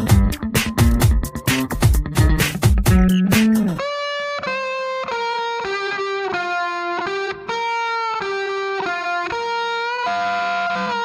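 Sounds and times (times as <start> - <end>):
solo guitar melody: 0.0 - 11.0.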